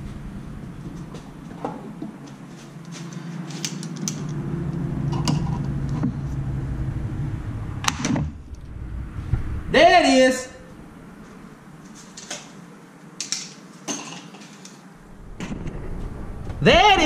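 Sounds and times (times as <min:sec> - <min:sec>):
low mechanical hum: 0:00.0 - 0:13.6, 0:14.2 - 0:17.0.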